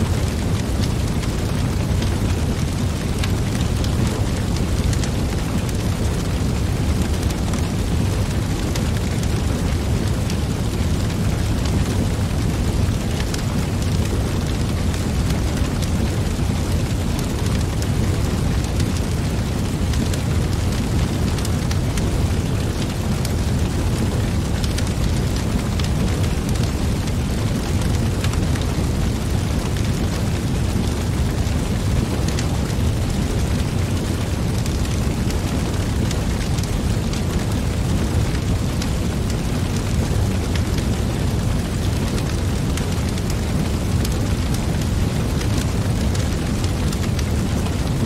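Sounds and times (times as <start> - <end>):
fire rushing: 0.0 - 48.0
logs crackling and popping: 0.0 - 48.0.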